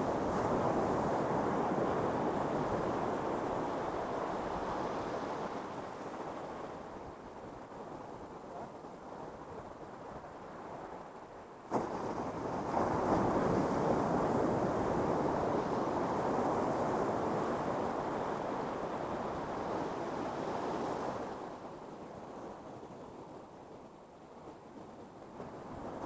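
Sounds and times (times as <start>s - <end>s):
rushing surf wash: 0.0s - 23.0s.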